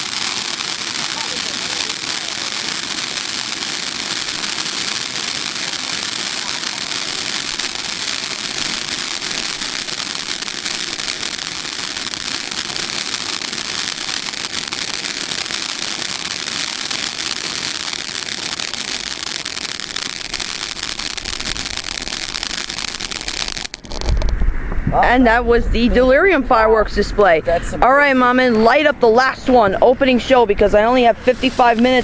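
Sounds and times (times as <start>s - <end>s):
fireworks crackling: 0.0s - 24.4s, 25.0s - 32.0s.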